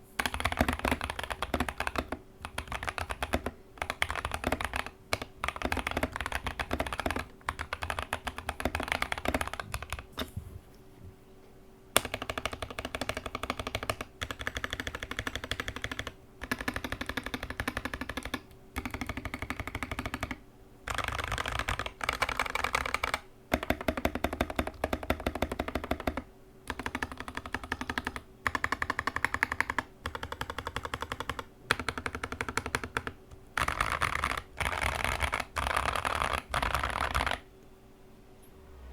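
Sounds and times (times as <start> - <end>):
rapid mechanical keyboard typing: 0.2 - 10.2, 12.0 - 37.5.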